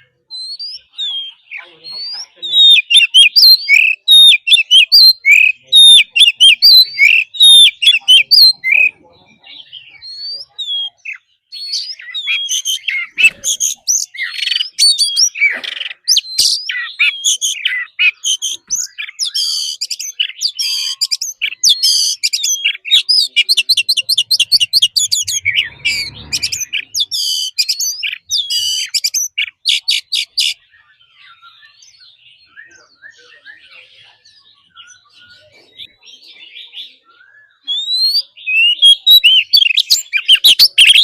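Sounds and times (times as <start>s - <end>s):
bird singing whistles and trills: 0.0s - 41.0s.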